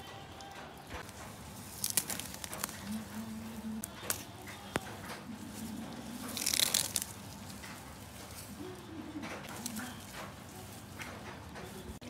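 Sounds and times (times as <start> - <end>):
wire basket clicks: 0.0 - 12.0
grass rustling: 0.4 - 12.0.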